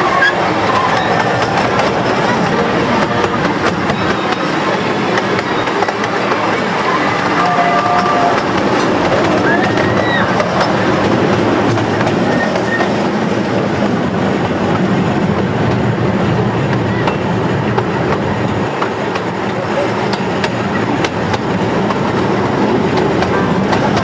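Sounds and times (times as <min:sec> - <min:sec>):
small train cars rumbling and rattling: 0:00.0 - 0:24.0.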